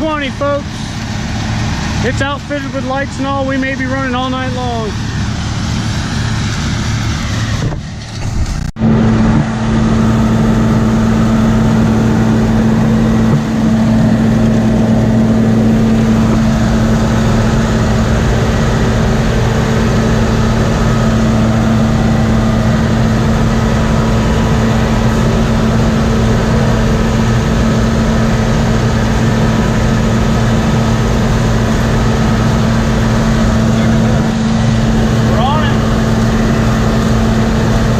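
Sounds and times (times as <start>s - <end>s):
diesel engine droning: 0.0s - 37.9s.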